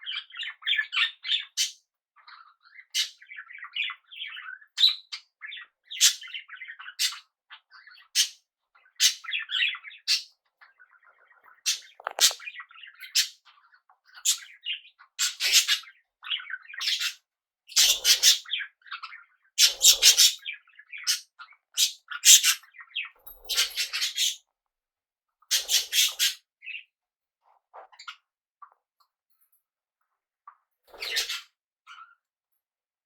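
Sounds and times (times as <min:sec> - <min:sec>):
parrots chirping and squawking: 0:00.0 - 0:24.4, 0:25.5 - 0:26.8, 0:30.9 - 0:32.2.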